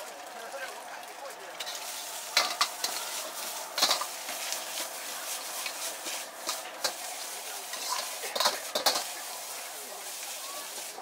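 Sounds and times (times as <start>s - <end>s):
frying hiss: 0.0s - 11.0s
metal ladle scraping a wok: 1.6s - 11.0s.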